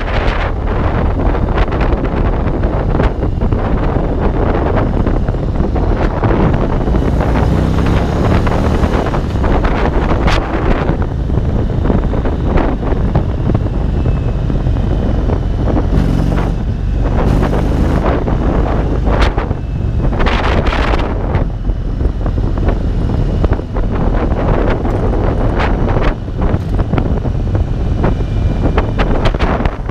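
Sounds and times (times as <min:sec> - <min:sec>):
motorcycle engine: 0:00.0 - 0:29.9
wind noise on microphone: 0:00.0 - 0:29.9.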